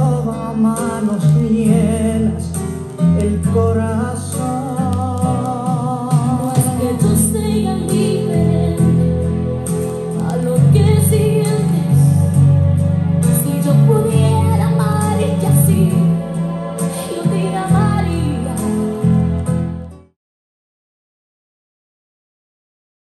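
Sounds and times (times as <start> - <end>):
ballad singing with accompaniment: 0.0 - 19.7.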